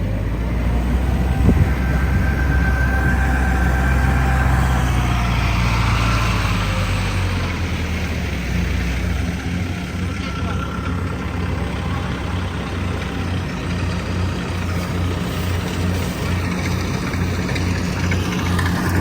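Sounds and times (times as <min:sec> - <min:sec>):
harvester engine running: 0:00.0 - 0:19.0
whining machinery: 0:00.0 - 0:19.0.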